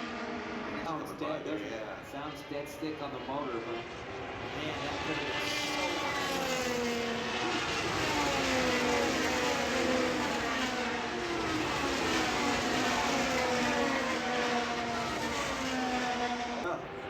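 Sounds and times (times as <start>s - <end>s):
racing cars passing at high revs: 0.0s - 17.0s.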